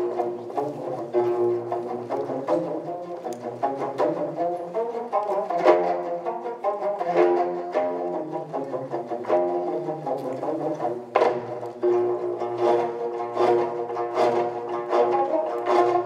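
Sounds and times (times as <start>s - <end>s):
plucked zither ensemble: 0.0s - 16.0s.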